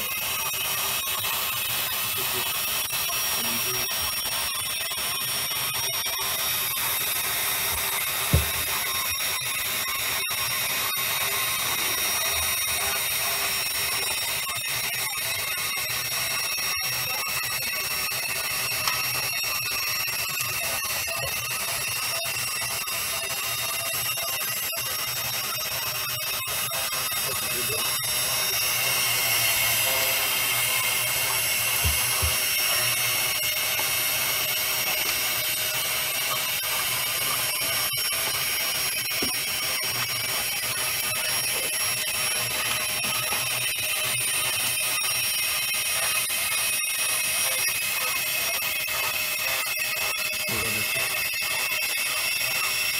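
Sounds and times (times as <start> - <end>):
electric motors whining in pipe: 0.0 - 52.9.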